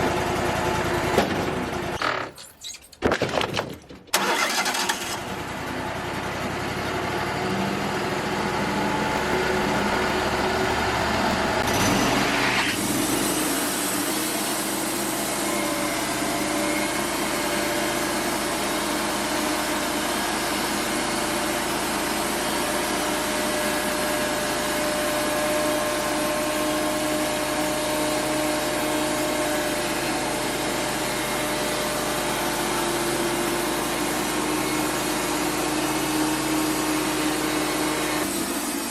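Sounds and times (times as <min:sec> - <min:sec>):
band sawmill running: 0:00.0 - 0:02.3, 0:04.1 - 0:38.9.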